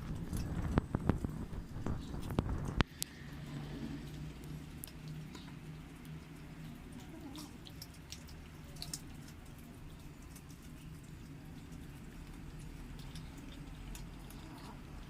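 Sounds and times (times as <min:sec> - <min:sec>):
kittens chewing clicks: 0:00.0 - 0:15.0.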